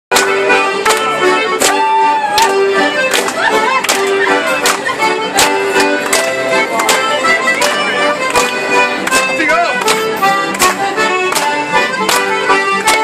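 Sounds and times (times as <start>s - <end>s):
lively instrumental dance tune: 0.1s - 13.0s.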